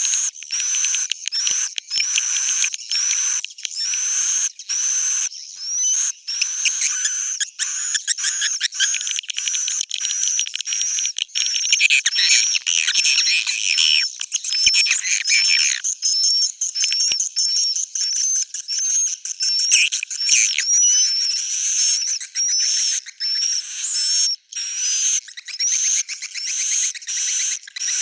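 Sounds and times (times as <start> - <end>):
swiftlet twittering chirps: 0.0 - 28.0.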